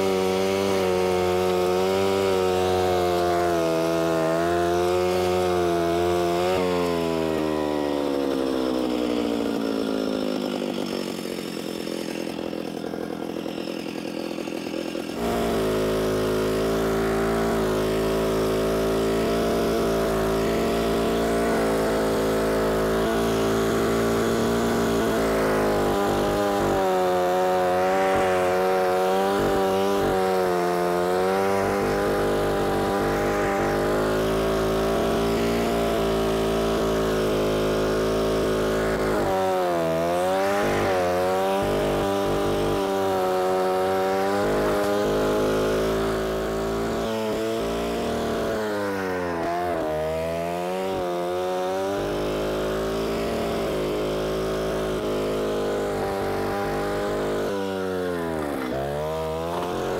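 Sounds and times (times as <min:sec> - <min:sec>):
stump grinder engine cutting turf: 0:00.0 - 0:59.9.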